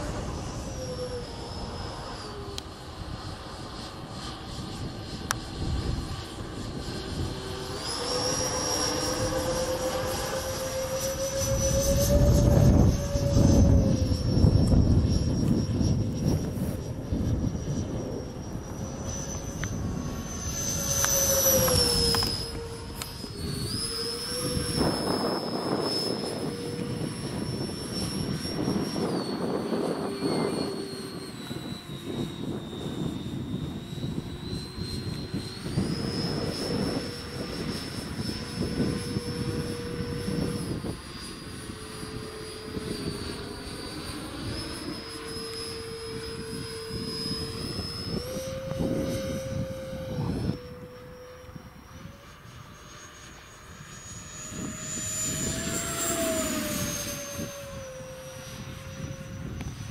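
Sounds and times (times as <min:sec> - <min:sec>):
model jet fan whining: 0:00.0 - 0:59.9
wind buffeting microphone: 0:00.0 - 0:59.9.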